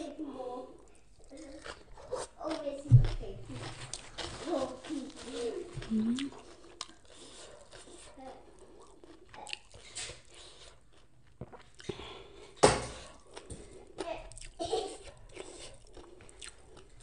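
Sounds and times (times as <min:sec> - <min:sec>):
person chewing food: 0:00.7 - 0:17.0.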